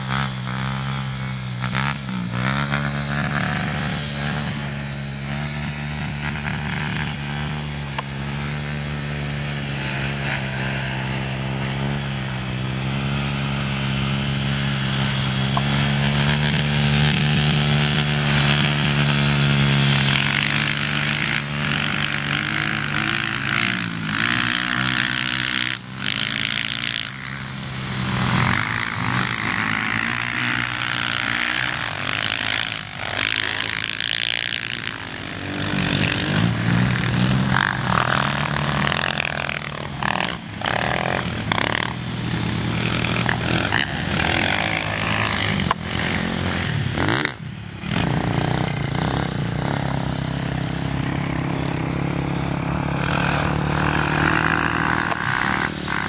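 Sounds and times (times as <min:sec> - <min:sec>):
atv engines running: 0:00.0 - 0:56.0.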